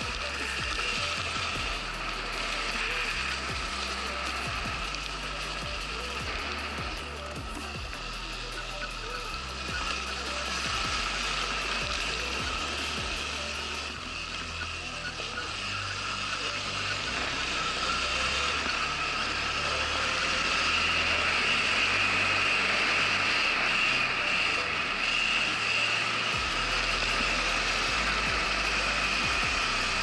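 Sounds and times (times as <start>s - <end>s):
electric motorcycle motor whine: 0.0s - 30.0s.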